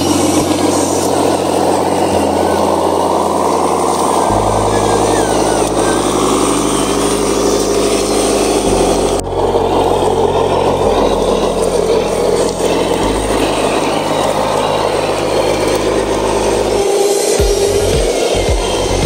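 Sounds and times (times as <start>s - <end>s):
toy truck engine droning: 0.0s - 19.0s.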